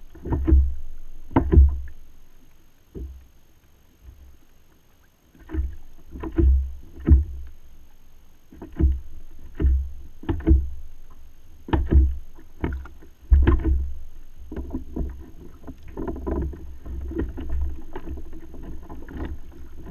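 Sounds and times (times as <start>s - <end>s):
water splashing on kayak: 0.0s - 19.9s.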